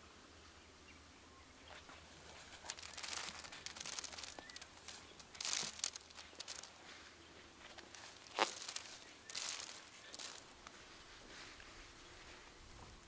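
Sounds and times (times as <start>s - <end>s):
dry crackly rustling: 1.6s - 12.6s.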